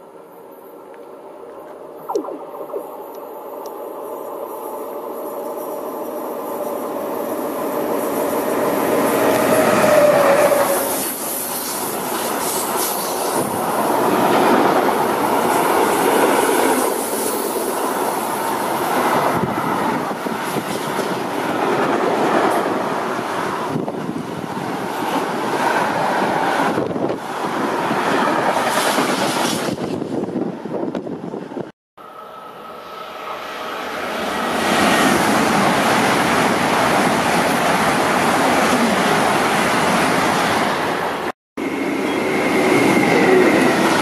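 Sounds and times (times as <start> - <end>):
train wheel noise and clatter: 3.6 - 31.7, 32.9 - 44.0.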